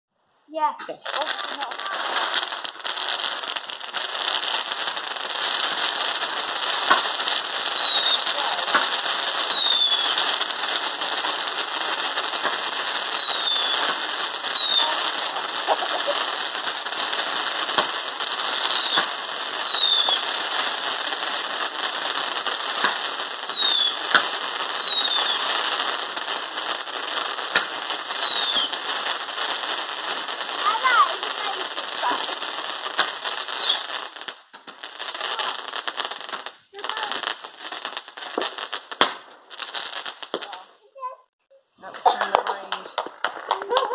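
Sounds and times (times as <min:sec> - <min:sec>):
fireworks fizzing and crackling: 0:00.5 - 0:43.9
sharp firework cracks: 0:00.8 - 0:40.8, 0:41.8 - 0:43.9.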